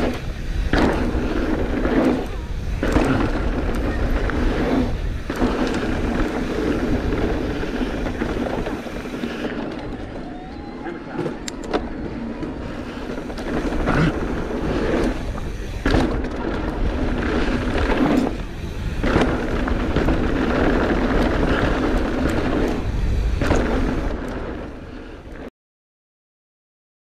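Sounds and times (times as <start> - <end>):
bike clattering over bumps: 0.0 - 10.2, 11.2 - 24.8
wind buffeting microphone: 0.0 - 25.4
bike tyres on dirt: 0.0 - 25.5.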